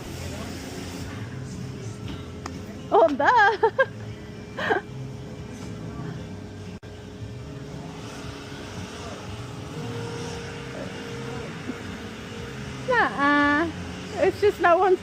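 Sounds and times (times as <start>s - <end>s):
vehicle traffic rumble: 0.0s - 15.0s.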